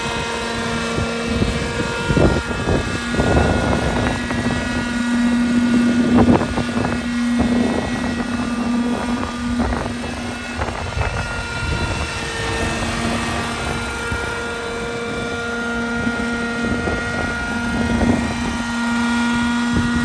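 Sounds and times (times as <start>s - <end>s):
model helicopter engine running: 0.0s - 20.0s
wind buffeting microphone: 0.0s - 20.0s.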